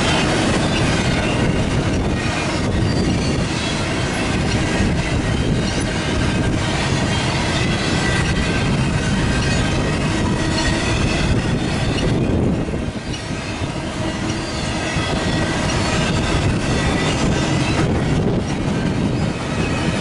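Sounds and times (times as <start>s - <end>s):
freight train wheels rumbling on rail: 0.0s - 20.0s
high wheel squealing: 0.1s - 20.0s.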